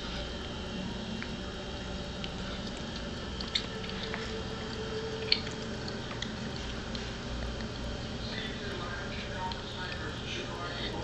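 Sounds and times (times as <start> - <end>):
toddler chewing food: 0.0 - 11.0.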